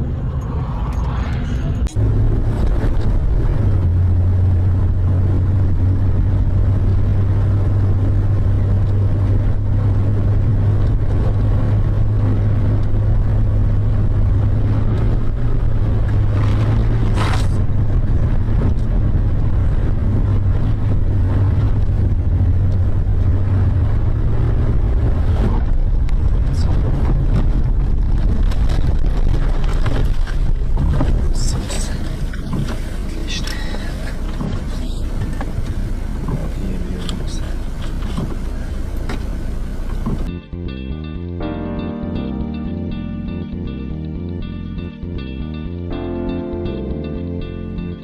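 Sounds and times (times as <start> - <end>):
car engine and road noise: 0.0 - 48.0.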